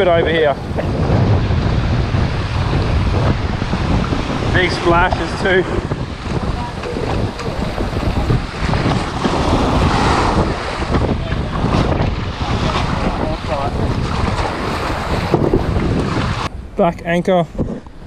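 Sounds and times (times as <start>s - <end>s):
legs wading in shallow surf: 0.0s - 16.5s
small waves splashing around hull: 0.0s - 16.5s
wind buffeting microphone: 0.0s - 18.0s.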